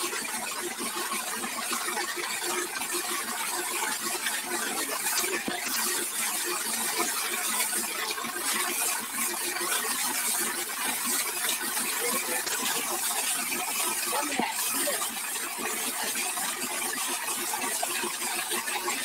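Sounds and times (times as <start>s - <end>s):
water hose spraying and splashing: 0.0s - 19.0s.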